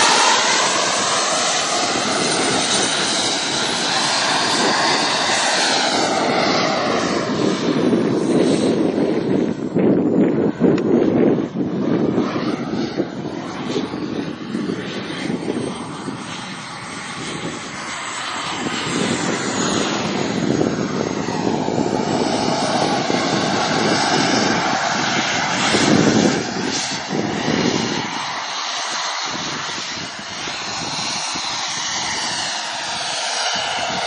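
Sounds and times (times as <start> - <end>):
jet aircraft flying past: 0.0 - 34.0.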